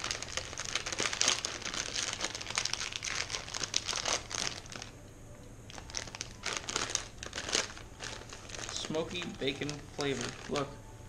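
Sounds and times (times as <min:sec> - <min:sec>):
plastic packet crinkling: 0:00.0 - 0:04.9, 0:05.7 - 0:10.8.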